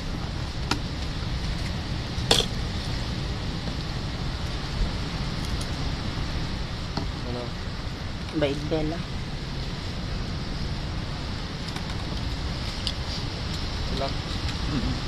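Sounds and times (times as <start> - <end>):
low rumbling wind noise: 0.0 - 15.0.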